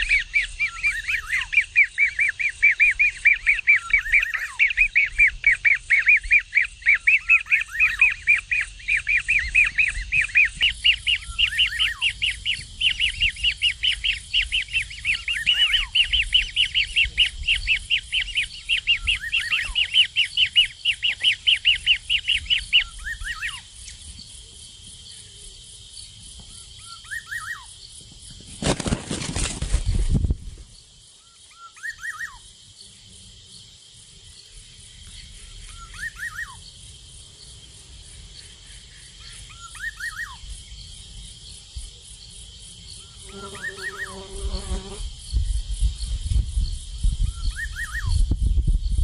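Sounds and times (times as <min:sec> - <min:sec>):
bird chirping: 0:00.0 - 0:24.4, 0:25.0 - 0:28.0, 0:30.7 - 0:33.7, 0:34.3 - 0:49.0.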